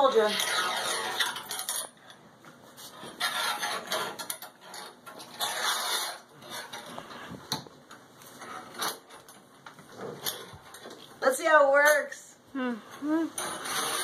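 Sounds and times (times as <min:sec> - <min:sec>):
metal rings scraping along rod: 0:00.0 - 0:02.2, 0:02.8 - 0:07.4, 0:08.4 - 0:12.2, 0:13.3 - 0:14.0.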